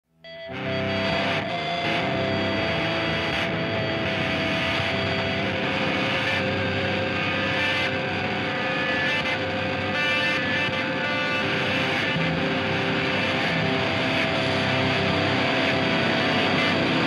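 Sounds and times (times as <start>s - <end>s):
droning background music chords: 0.4s - 17.0s.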